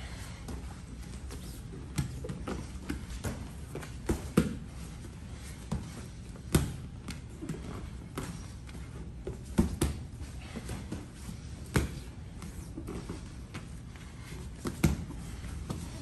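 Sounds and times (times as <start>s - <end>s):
hands and feet slapping on mats: 0.0s - 16.0s.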